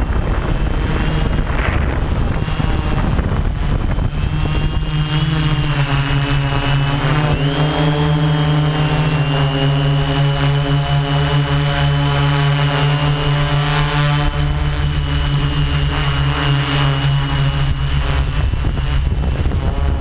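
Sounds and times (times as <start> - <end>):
model aircraft motors whining: 0.0 - 20.0
wind on microphone: 0.0 - 20.0.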